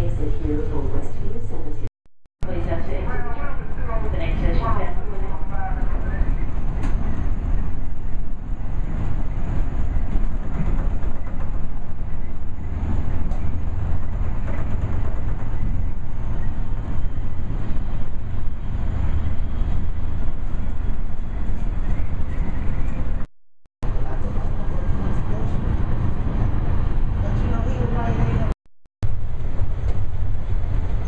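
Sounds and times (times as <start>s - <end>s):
rail car wheels rumbling on track: 2.4s - 31.0s.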